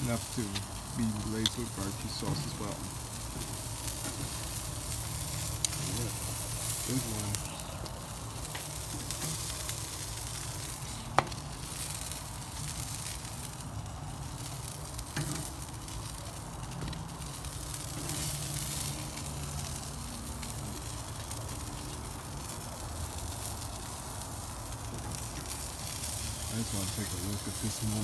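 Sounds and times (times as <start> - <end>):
chicken sizzling on grill: 0.0 - 28.0.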